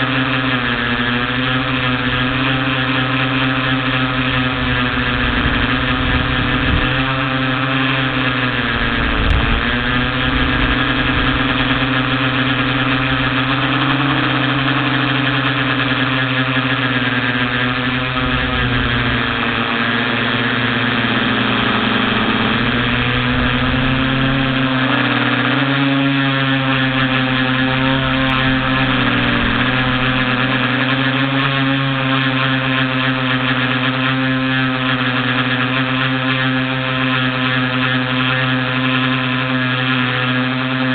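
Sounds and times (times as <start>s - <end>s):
quadcopter motors and propellers whining: 0.0s - 40.9s.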